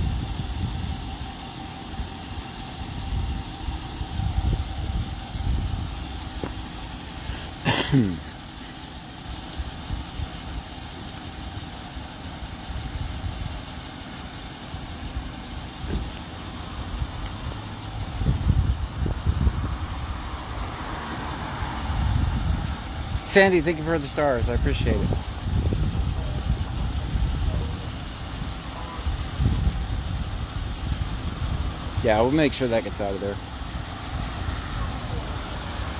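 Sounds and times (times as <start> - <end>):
vehicle engine rumbling: 0.0 - 35.9.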